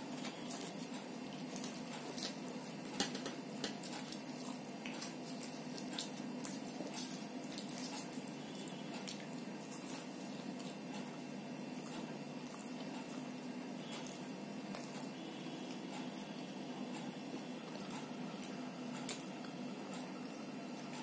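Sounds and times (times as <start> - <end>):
steady low hum: 0.0 - 21.0
wet chewing: 0.0 - 21.0.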